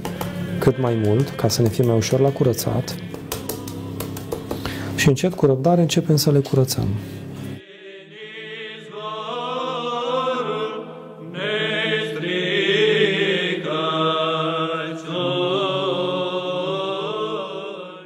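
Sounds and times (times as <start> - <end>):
men's choir chanting: 0.0 - 4.5, 7.6 - 18.0.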